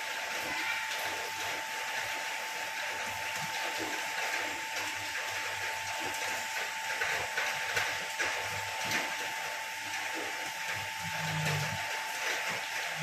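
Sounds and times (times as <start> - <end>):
machine whine: 0.1 - 13.0.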